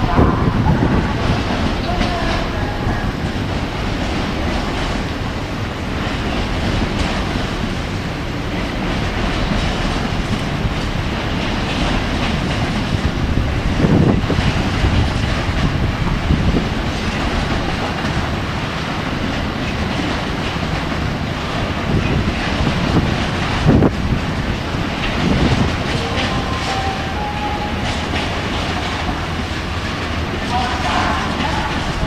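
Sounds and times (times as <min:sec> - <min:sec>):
train wheels rushing over rails: 0:00.0 - 0:32.0.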